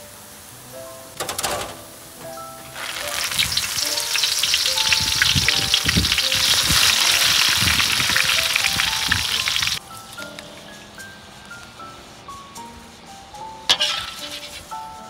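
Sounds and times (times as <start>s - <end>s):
leaves deep-frying in oil: 0.0s - 11.0s, 13.5s - 15.0s.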